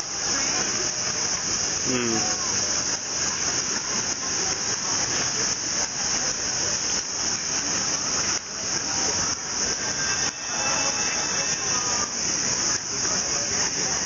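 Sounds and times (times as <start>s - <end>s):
street and crowd murmur: 0.0s - 14.0s.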